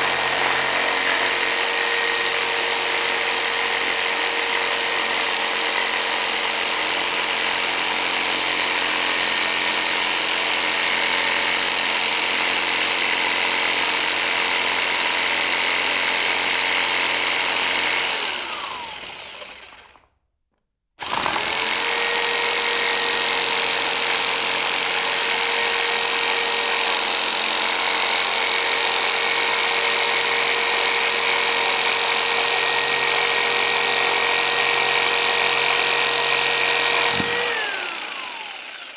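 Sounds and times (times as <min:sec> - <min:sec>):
electric jigsaw motor running: 0:00.0 - 0:20.1, 0:21.0 - 0:38.9.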